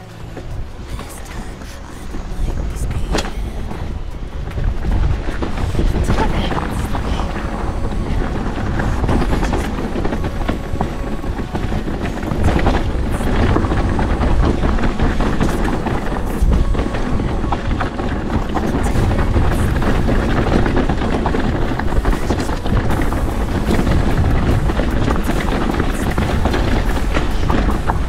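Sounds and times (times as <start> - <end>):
mountain bike rattling: 0.0 - 28.0
tyres rumbling over ground: 0.0 - 28.0.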